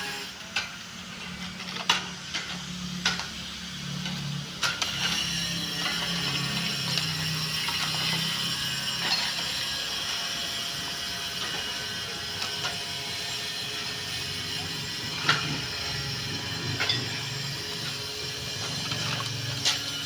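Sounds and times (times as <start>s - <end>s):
mechanical running hum: 0.0s - 20.0s.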